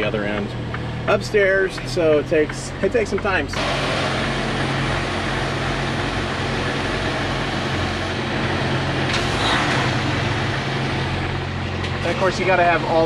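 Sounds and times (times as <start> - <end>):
diesel truck engine running: 0.0 - 13.0
road and cab noise: 0.0 - 13.0.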